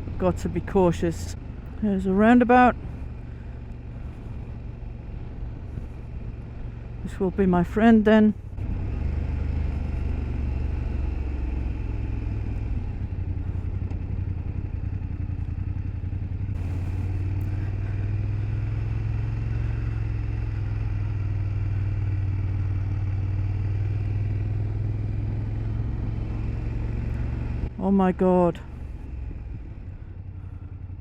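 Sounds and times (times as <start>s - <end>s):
motorcycle engine drone: 0.0s - 31.0s
road and wind noise: 0.0s - 31.0s.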